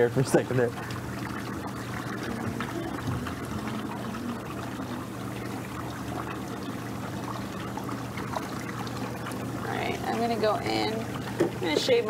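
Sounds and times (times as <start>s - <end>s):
steady low hum: 0.0s - 12.0s
water trickling and splashing: 0.0s - 12.0s.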